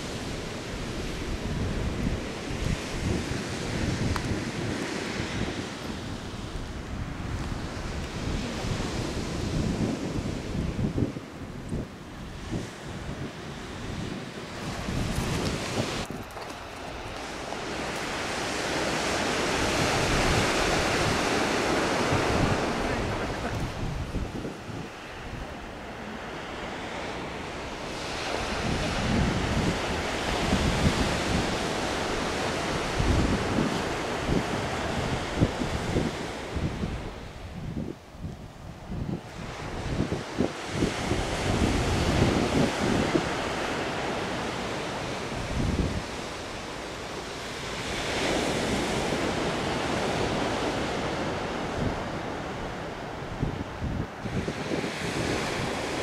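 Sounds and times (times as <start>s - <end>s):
sea surf washing on shore: 0.0s - 56.0s
wind buffeting microphone: 0.0s - 56.0s.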